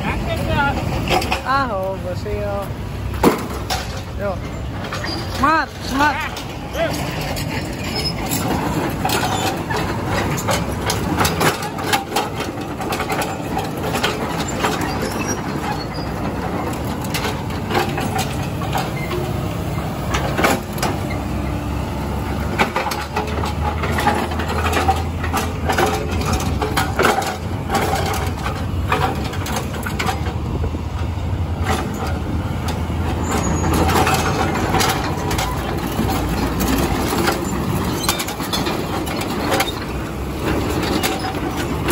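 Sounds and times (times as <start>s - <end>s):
excavator engine low hum: 0.0s - 41.9s
hydraulic breaker clanking on concrete: 0.4s - 1.7s, 3.1s - 41.9s.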